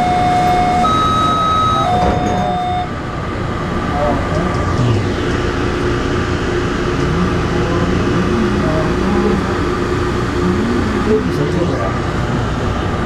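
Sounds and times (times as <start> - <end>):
traction motor tones shifting pitch: 0.0 - 3.0, 4.3 - 13.0
train running noise: 0.0 - 13.0.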